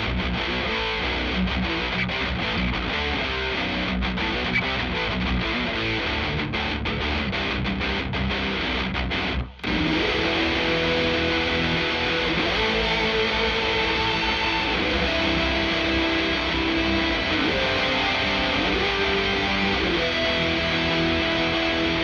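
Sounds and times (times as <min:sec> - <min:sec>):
distorted rhythm guitar: 0:00.0 - 0:22.0
lead guitar held notes: 0:00.0 - 0:22.0.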